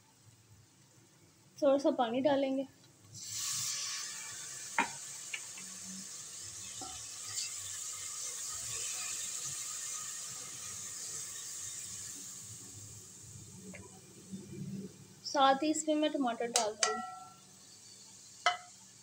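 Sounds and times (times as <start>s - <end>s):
masala sizzling in hot ghee: 0.2s - 19.0s.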